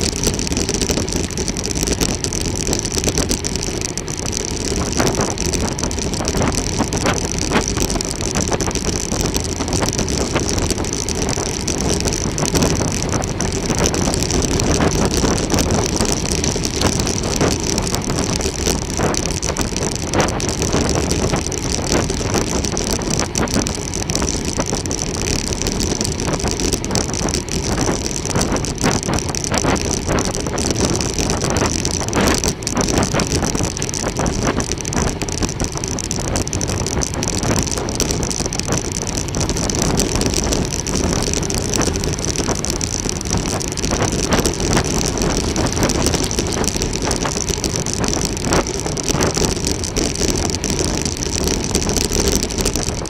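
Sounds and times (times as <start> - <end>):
bicycle tyres on road: 0.0 - 53.0.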